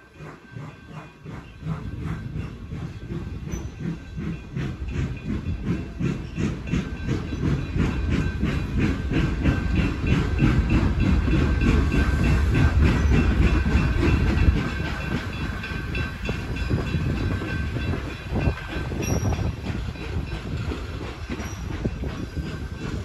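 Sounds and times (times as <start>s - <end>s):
low train rumble: 0.0s - 23.0s
steam hiss: 0.0s - 23.0s
train wheels clicking over rail joints: 0.0s - 23.0s.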